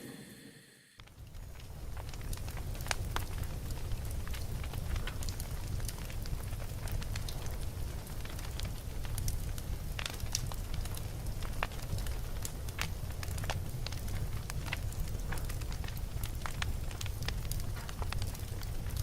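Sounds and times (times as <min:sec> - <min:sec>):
fire crackling and popping: 0:01.0 - 0:19.0.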